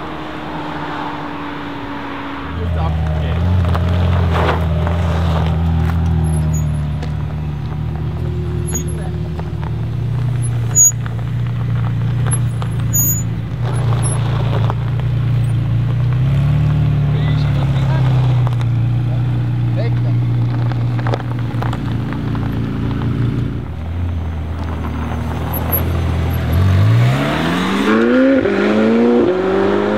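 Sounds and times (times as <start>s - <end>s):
car engine idling: 2.4s - 26.9s.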